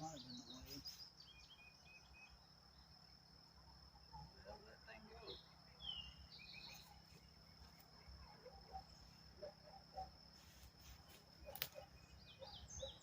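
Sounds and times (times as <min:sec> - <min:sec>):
faint bird chirps: 0:00.0 - 0:13.0
high insect trill: 0:00.0 - 0:13.0.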